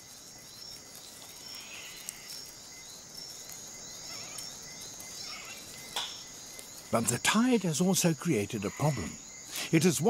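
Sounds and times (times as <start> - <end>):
insect chirps: 0.0 - 10.0
insect trill: 0.0 - 10.0.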